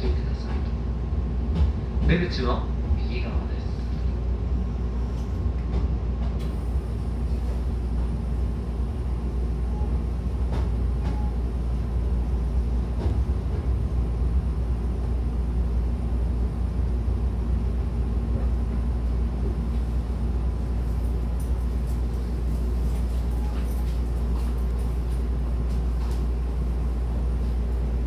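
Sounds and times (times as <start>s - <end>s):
train running gear rumble: 0.0s - 28.0s.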